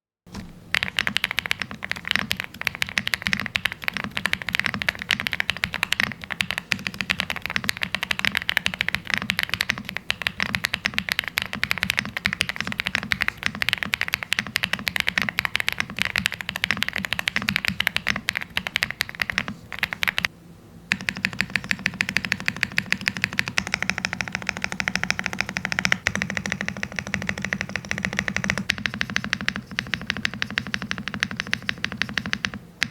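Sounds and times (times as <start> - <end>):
fast typing on mechanical keyboard: 0.7 - 20.3, 20.9 - 32.9.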